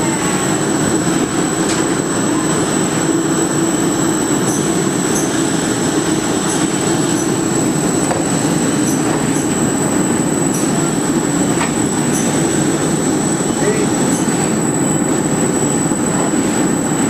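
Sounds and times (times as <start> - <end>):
machine and air noise: 0.0 - 17.0
thin high whine: 0.0 - 17.0.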